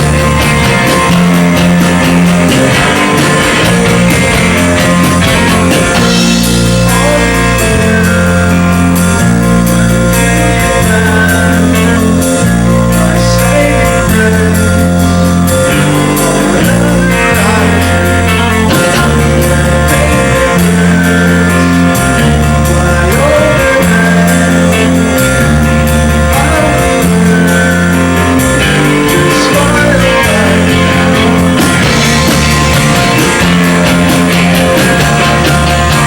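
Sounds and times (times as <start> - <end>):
bass notes: 0.0 - 36.0
drums: 0.0 - 36.0
electric guitar: 0.0 - 36.0
person singing: 0.0 - 36.0.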